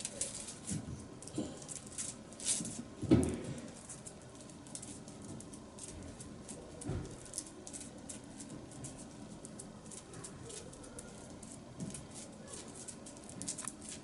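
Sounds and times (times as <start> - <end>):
dog claws clicking on hard floor: 0.0 - 14.0.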